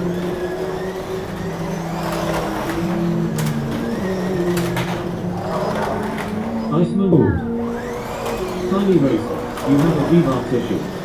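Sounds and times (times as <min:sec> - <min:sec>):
slot car motors whining: 0:00.0 - 0:11.0.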